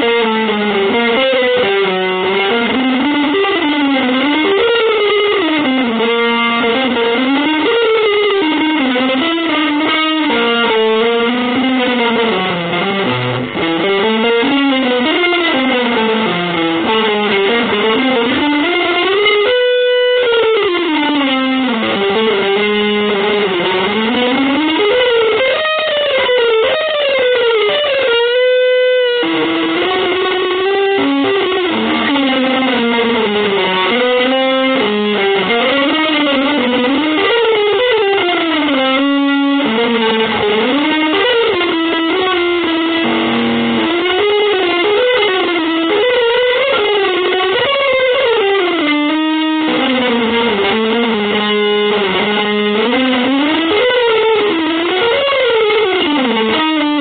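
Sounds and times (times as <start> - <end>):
electric guitar solo: 0.0 - 57.0.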